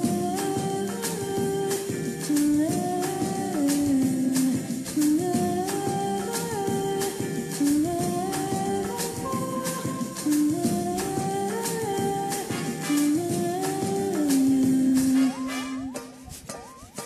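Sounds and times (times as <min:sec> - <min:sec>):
light percussion: 0:00.0 - 0:17.0.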